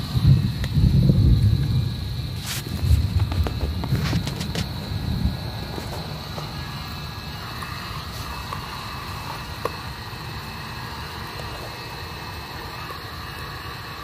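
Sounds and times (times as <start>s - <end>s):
fire crackling pops: 0.0s - 14.0s
fire rumbling: 0.0s - 14.0s.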